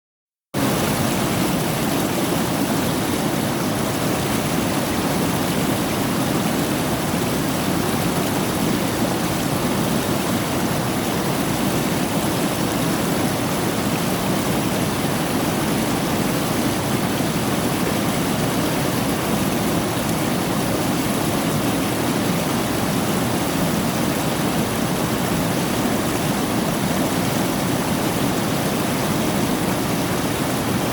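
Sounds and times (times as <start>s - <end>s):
river water rushing: 0.6s - 30.9s.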